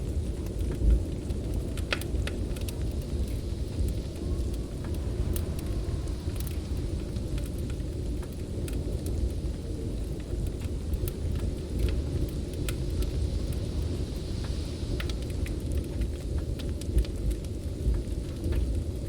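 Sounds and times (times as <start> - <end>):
snowstorm wind blowing: 0.0 - 19.0
wood fire popping and crackling: 0.0 - 19.0.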